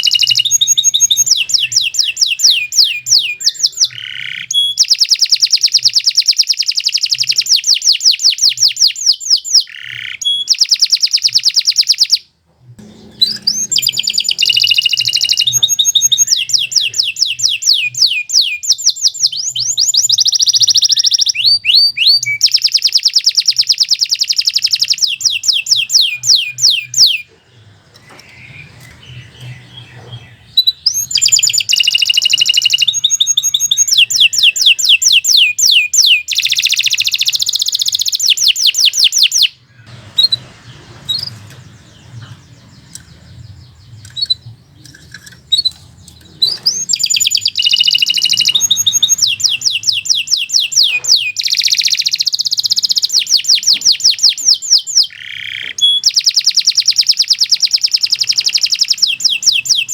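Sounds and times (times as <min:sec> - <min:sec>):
short bird chirps: 0:00.0 - 0:12.2, 0:13.1 - 0:27.3, 0:28.0 - 0:59.9
canary singing trills: 0:00.0 - 0:59.9.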